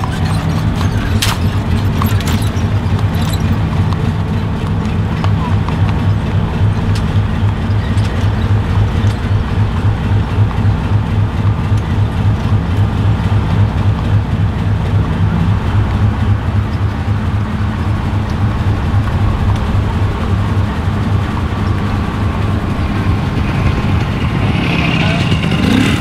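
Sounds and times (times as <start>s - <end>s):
locomotive engine idling: 0.0s - 26.0s.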